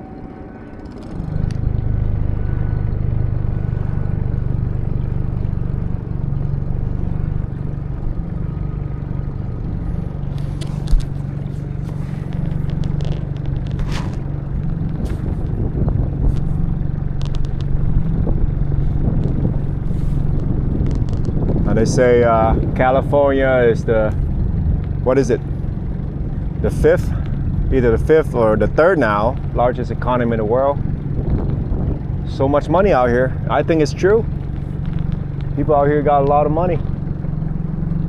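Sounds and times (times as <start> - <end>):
outboard motor droning: 0.0 - 38.0.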